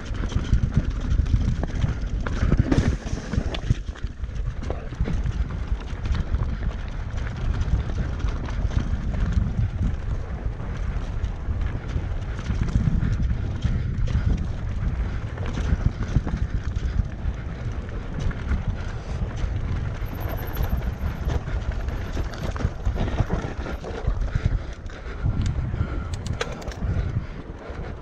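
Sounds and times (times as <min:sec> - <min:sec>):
bike and tyres rattling: 0:00.0 - 0:28.0
wind buffeting microphone: 0:00.0 - 0:28.0.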